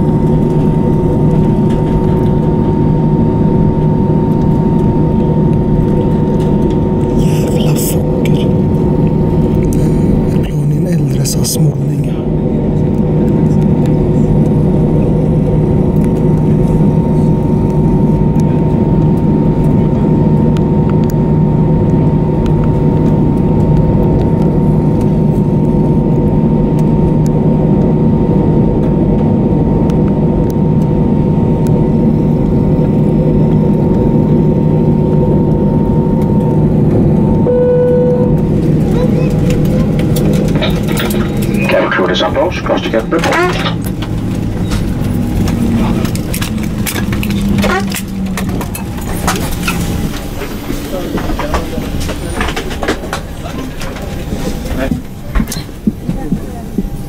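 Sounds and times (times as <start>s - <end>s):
engine whining tones: 0.0s - 57.0s
jet engines idling in cabin: 0.0s - 57.0s.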